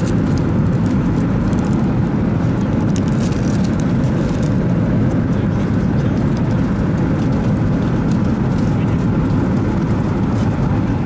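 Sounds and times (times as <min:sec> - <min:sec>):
airplane cabin roar: 0:00.0 - 0:11.0.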